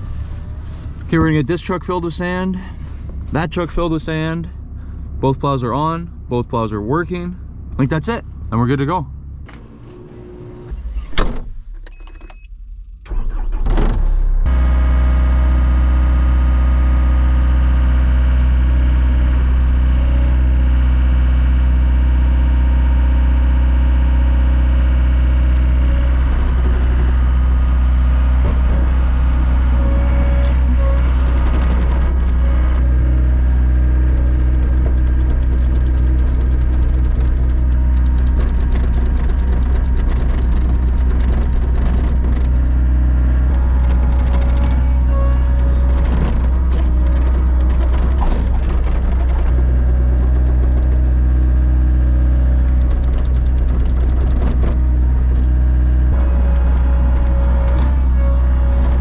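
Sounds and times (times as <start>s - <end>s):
truck engine rumbling: 0.0s - 12.0s, 12.7s - 59.0s.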